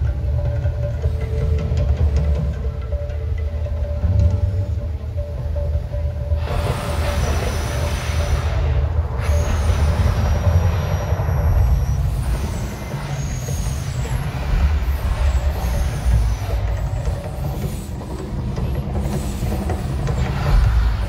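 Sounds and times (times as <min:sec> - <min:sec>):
deep rumble over speakers: 0:00.0 - 0:21.0.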